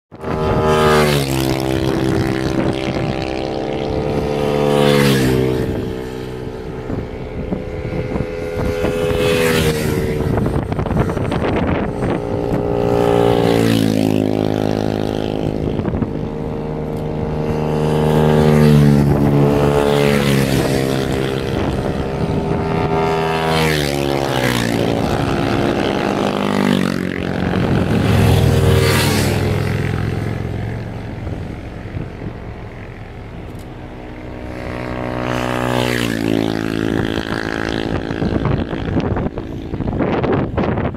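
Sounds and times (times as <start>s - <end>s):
mini motorcycles passing: 0.1s - 40.9s.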